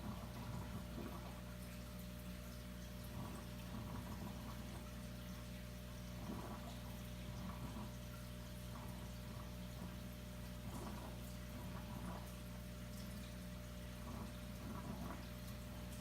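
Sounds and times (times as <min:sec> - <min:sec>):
low pump hum: 0:00.0 - 0:16.0
water trickling and splashing: 0:00.0 - 0:16.0.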